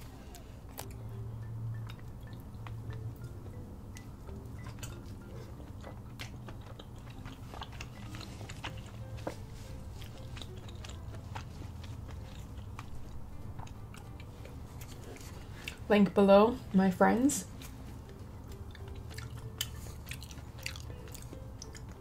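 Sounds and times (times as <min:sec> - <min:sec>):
biting and chewing food: 0:00.3 - 0:15.9, 0:17.4 - 0:22.0.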